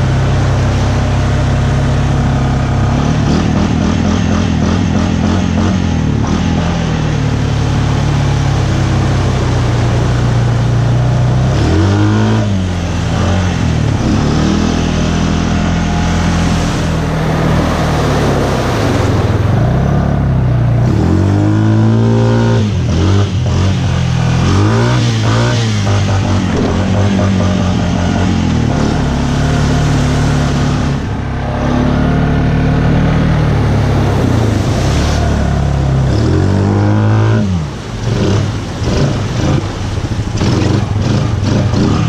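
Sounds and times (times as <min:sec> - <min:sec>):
atv engine revving: 0:00.0 - 0:42.0
splashing through mud and water: 0:00.0 - 0:42.0.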